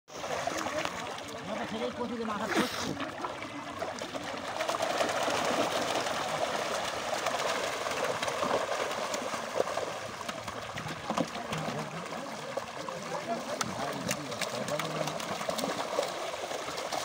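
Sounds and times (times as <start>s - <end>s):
fish thrashing and splashing: 0.1s - 17.0s.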